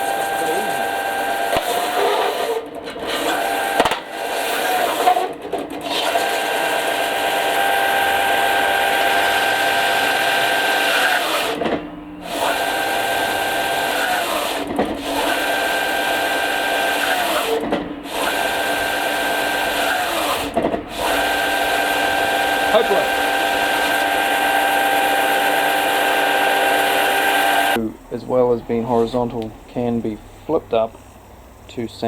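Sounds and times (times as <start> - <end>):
sander motor bogging under load: 0.0 - 27.8.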